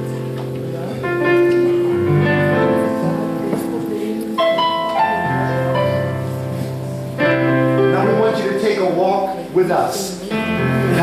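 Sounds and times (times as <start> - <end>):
piano-like keyboard chords: 0.0 - 11.0.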